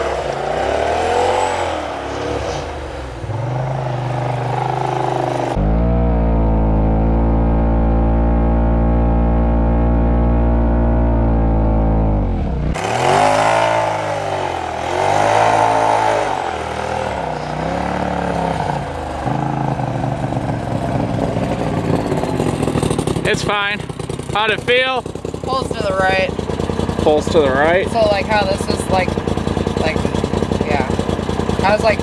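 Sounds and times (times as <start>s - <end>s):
engine revving: 0.0s - 32.0s.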